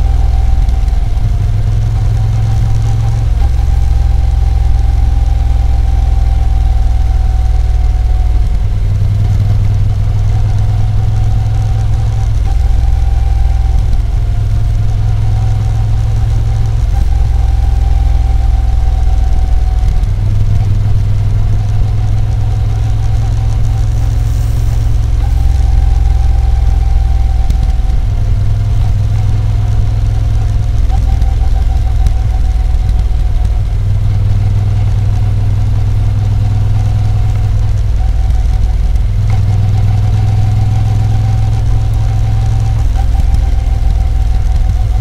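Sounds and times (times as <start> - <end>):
motorcycle engine rumble: 0.0 - 45.0.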